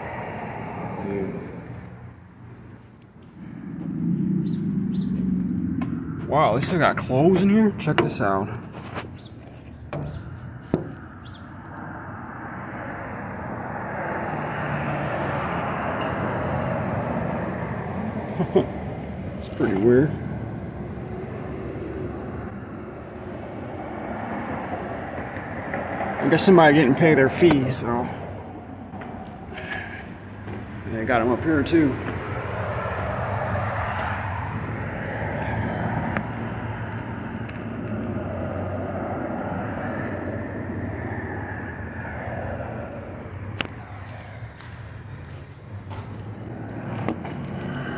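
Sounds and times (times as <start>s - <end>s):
motor vehicle passing: 0.0s - 47.9s
road traffic rushing: 0.0s - 47.9s.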